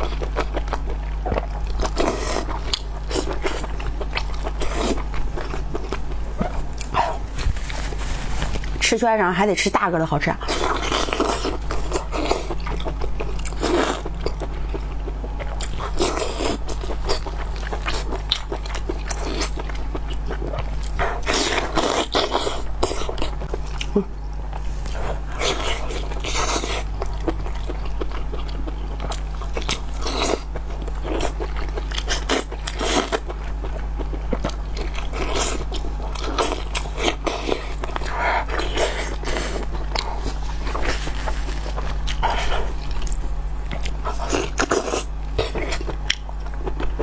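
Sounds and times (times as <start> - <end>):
chewing and biting sausage: 0.0 - 7.9, 10.4 - 47.0
steady low hum: 0.0 - 47.0.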